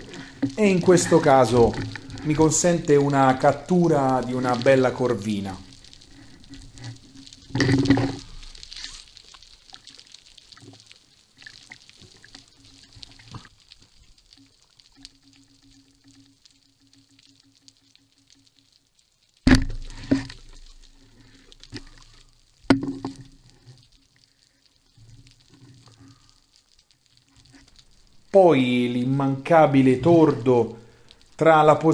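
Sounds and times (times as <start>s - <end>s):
faint underwater crackling: 0.0s - 31.9s.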